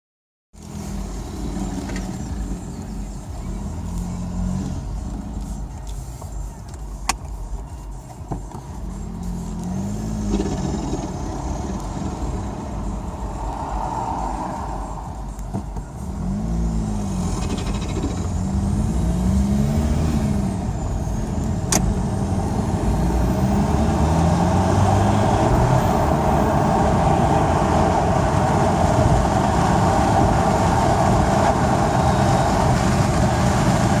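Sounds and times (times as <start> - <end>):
diesel engine revving: 0.6 - 7.8, 8.6 - 34.0.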